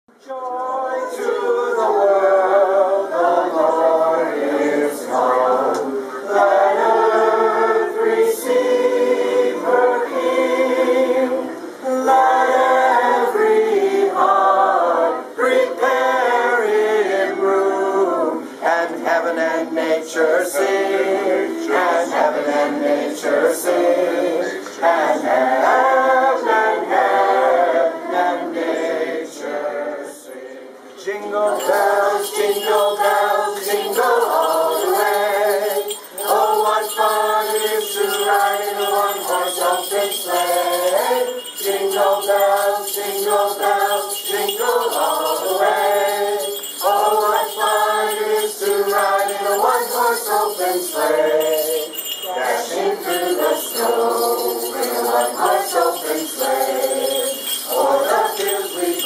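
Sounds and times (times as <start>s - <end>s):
choir singing a cappella: 0.1s - 59.0s.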